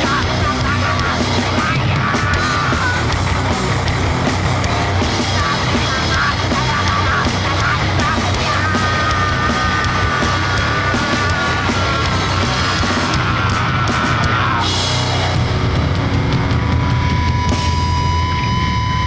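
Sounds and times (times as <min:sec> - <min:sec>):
distorted noise music: 0:00.0 - 0:19.0.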